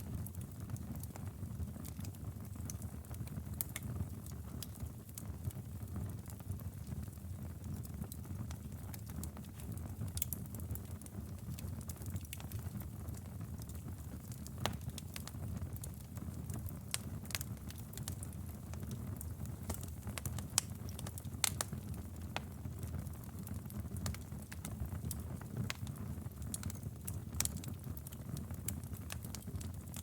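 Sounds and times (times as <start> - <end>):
fire crackling and popping: 0.0 - 30.0
fire rumbling in fireplace: 0.0 - 30.0.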